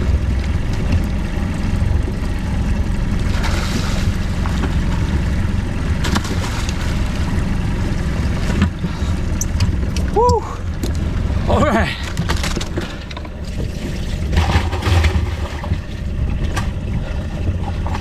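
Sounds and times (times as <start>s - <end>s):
boat engine running: 0.0s - 18.0s
water against hull: 0.0s - 18.0s.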